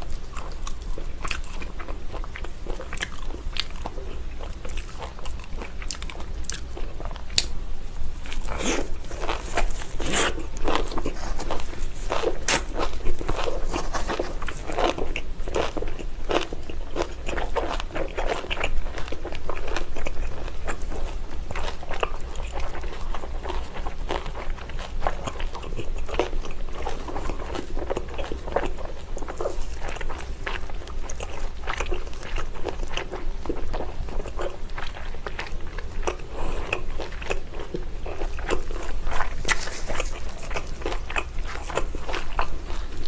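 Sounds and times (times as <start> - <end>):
chewing with clicks and smacks: 0.0 - 7.6, 8.2 - 43.0.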